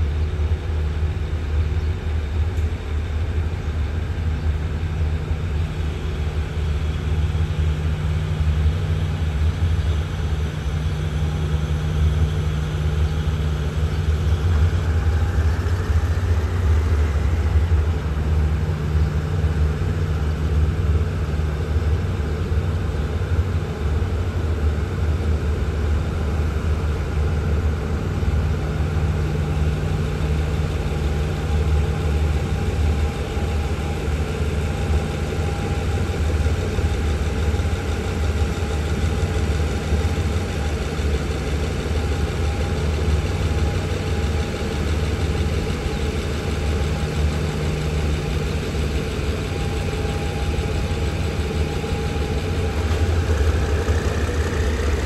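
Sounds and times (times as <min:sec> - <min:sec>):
train diesel engine drone: 0:00.0 - 0:55.0.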